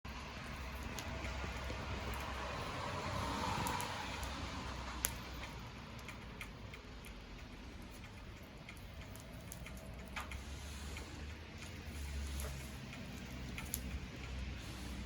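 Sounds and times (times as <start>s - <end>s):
bonfire crackling: 0.1s - 15.0s.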